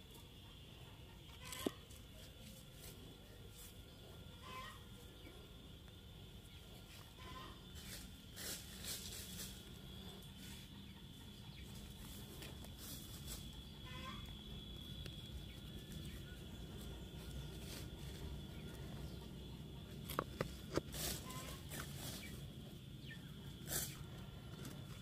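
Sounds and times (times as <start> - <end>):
faint animal calls: 0.1 - 2.2, 3.1 - 8.0, 9.3 - 24.8.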